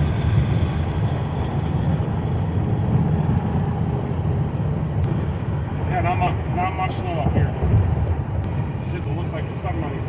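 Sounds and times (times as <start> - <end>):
road and engine drone in truck cab: 0.0 - 10.0.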